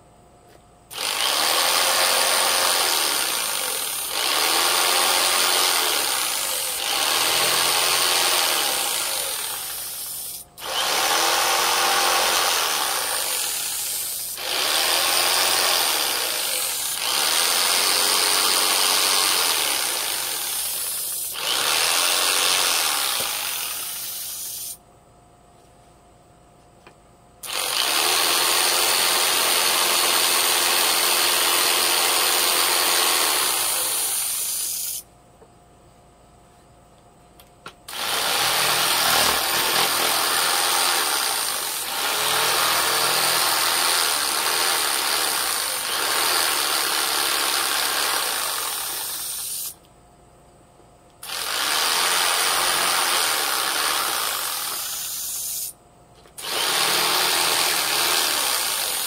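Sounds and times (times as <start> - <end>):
power tool cutting wood: 0.9 - 24.7, 27.4 - 35.0, 37.9 - 49.7, 51.2 - 55.6, 56.4 - 59.0.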